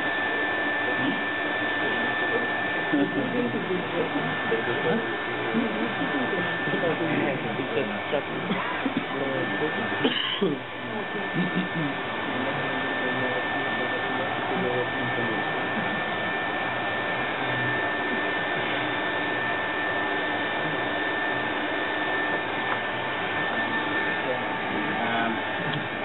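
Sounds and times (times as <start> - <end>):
fan motor whine: 0.0 - 26.0.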